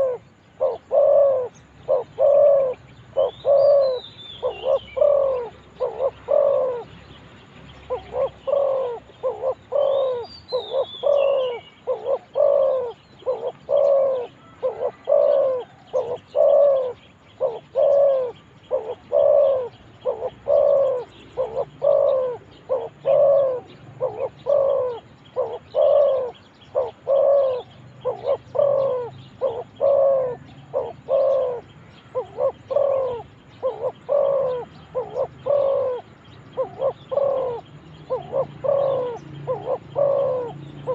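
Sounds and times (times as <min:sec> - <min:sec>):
dove cooing: 0:00.0 - 0:07.0, 0:07.8 - 0:40.9
small bird twittering: 0:00.0 - 0:40.9.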